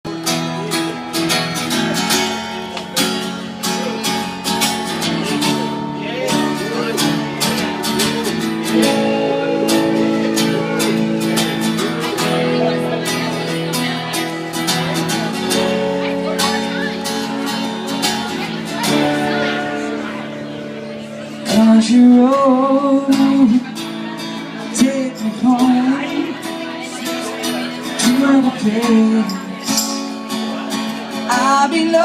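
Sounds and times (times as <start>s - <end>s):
acoustic band music: 0.0s - 32.0s
strummed acoustic guitar: 0.1s - 32.0s.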